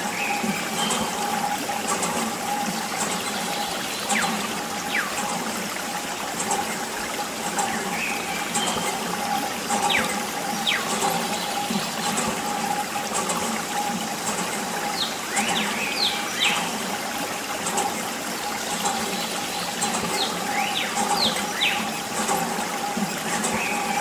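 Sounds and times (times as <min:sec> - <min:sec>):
small water pump humming: 0:00.0 - 0:24.0.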